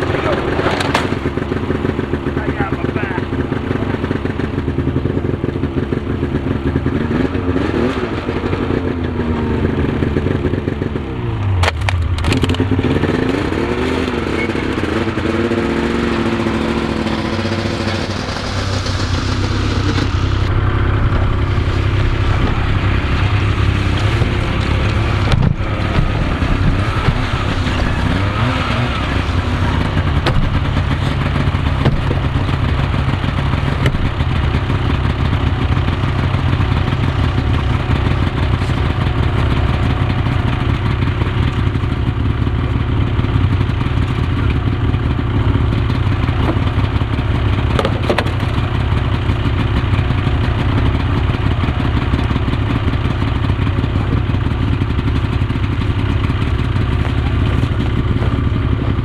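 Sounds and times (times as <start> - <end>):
snowmobile engine idling: 0.0 - 59.0.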